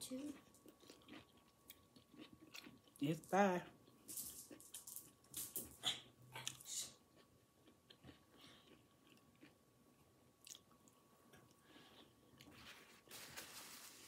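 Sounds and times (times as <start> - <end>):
person chewing pepper: 0.1 - 3.0, 3.6 - 12.8.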